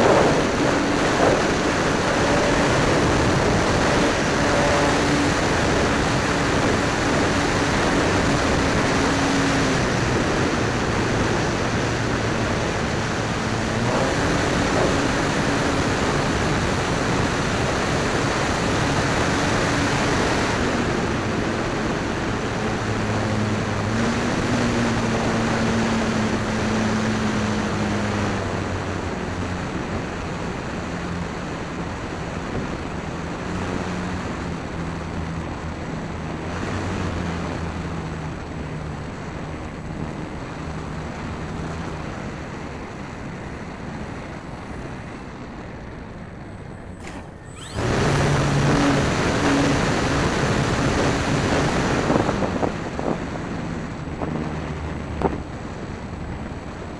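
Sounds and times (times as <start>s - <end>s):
electric motor and propeller hum: 0.0s - 31.1s, 41.1s - 56.9s
wind rushing over microphone: 0.0s - 56.9s.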